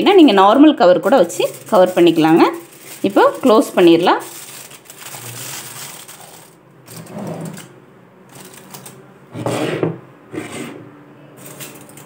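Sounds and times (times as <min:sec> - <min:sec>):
rustling and scraping of pots: 0:00.0 - 0:07.7, 0:08.3 - 0:11.8.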